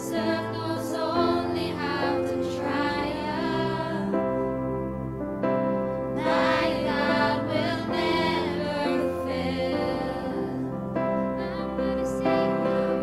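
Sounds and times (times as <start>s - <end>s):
voices singing worship song: 0.0s - 4.7s, 6.1s - 13.0s
church band chords: 0.0s - 13.0s.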